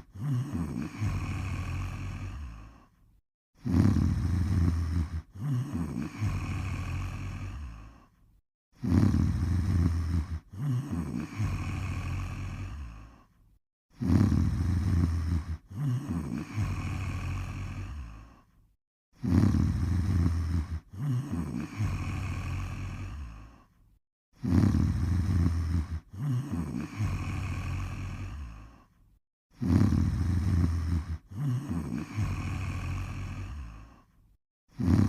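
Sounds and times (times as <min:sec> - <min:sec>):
person snoring: 0:00.0 - 0:08.2, 0:08.8 - 0:18.6, 0:19.2 - 0:23.8, 0:24.4 - 0:35.0.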